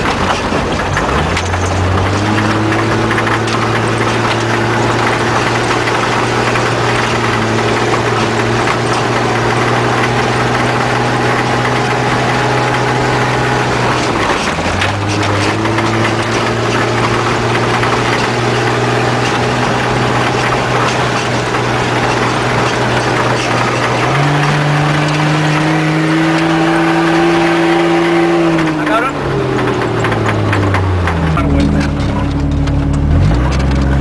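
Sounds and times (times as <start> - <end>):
knocks and rattles: 0.0 - 34.0
vehicle engine running: 0.0 - 34.0.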